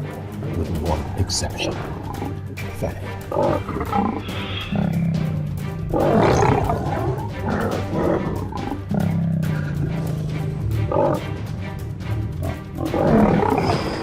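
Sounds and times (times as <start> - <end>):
background music: 0.0 - 14.0
lion roaring: 0.4 - 14.0.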